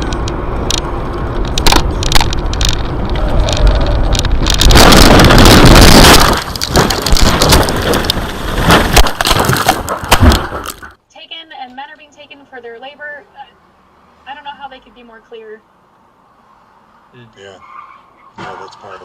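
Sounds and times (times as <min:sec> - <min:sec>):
car and road noise: 0:00.0 - 0:19.0.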